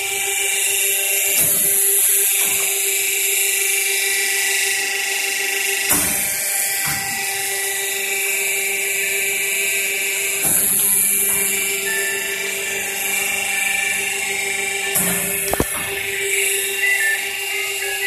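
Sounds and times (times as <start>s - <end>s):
hydraulic machine whine: 0.0s - 18.0s.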